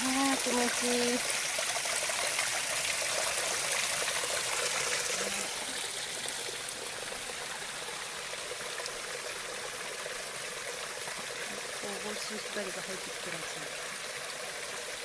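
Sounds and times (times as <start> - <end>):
running water splashing: 0.0 - 15.0.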